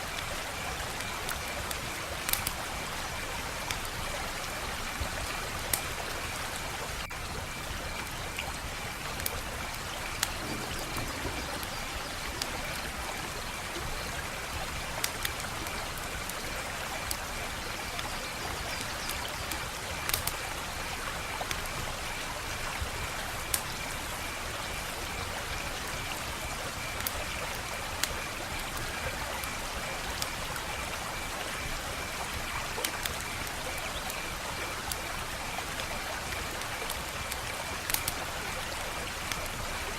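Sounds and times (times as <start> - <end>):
wood fire crackling: 0.1 - 18.1, 19.1 - 20.6, 26.9 - 38.2, 38.8 - 39.9.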